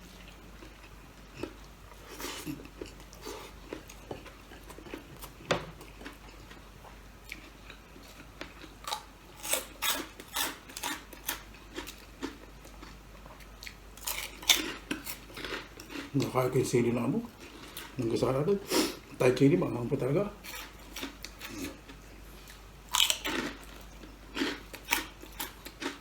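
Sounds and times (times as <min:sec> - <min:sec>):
person chewing: 0:00.2 - 0:16.4, 0:20.4 - 0:26.0.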